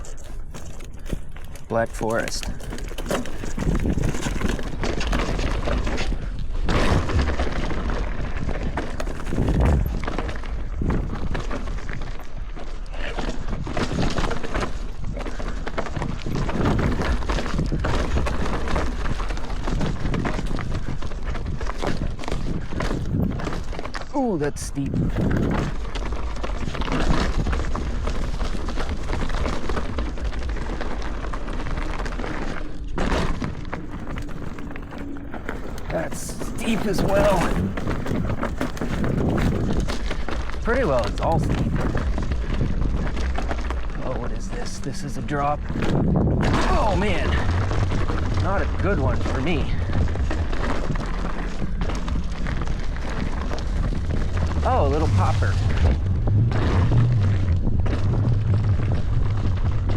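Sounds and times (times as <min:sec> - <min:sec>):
bike knocks and rattles: 0:00.0 - 0:59.9
tyres rumbling on dirt: 0:00.0 - 0:59.9
wind buffeting microphone: 0:00.0 - 0:59.9.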